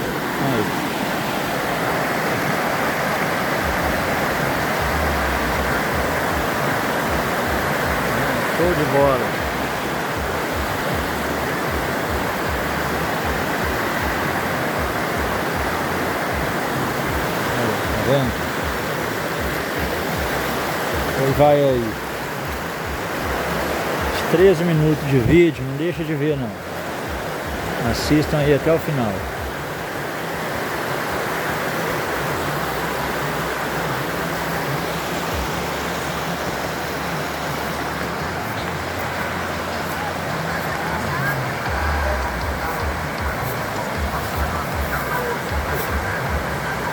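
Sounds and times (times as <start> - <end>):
waterfall roaring: 0.0 - 46.9.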